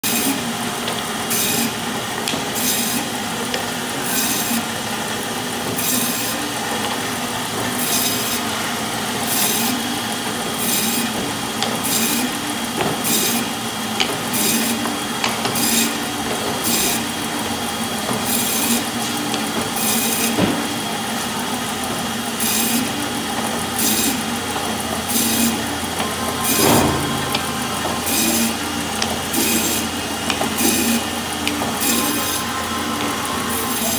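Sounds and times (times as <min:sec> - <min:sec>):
band saw running: 0:00.0 - 0:33.9.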